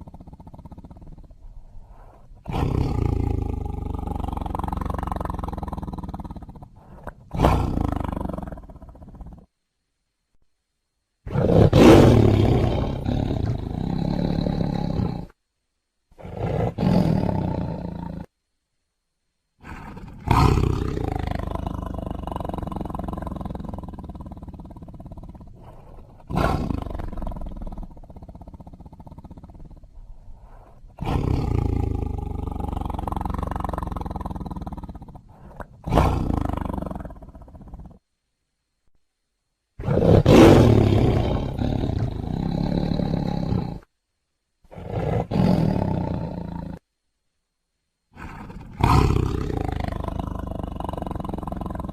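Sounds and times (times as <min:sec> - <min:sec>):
tiger roaring: 0:00.0 - 0:09.5, 0:11.2 - 0:15.4, 0:16.1 - 0:18.3, 0:19.6 - 0:38.0, 0:39.8 - 0:43.9, 0:44.6 - 0:46.8, 0:48.1 - 0:51.9
faint low growl: 0:00.0 - 0:09.7, 0:11.2 - 0:15.4, 0:16.1 - 0:18.4, 0:19.6 - 0:38.1, 0:39.8 - 0:43.9, 0:44.6 - 0:46.9, 0:48.1 - 0:51.9.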